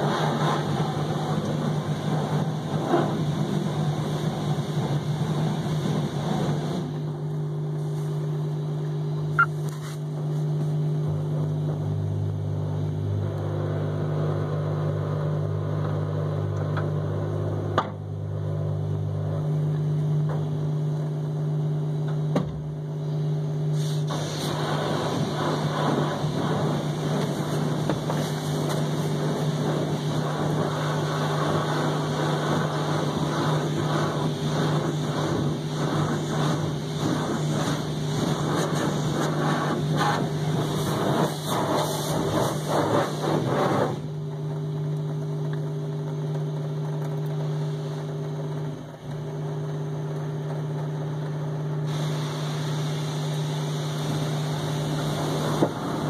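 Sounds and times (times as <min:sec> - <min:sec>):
water spraying on car: 0:00.0 - 0:22.0, 0:22.7 - 0:56.0
steady low hum: 0:00.0 - 0:56.0.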